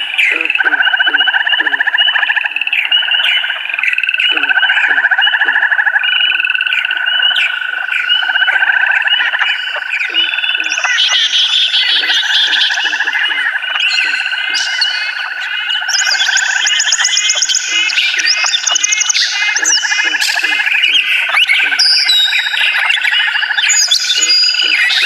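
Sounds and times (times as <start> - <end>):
chirping animal calls: 0.0 - 25.0.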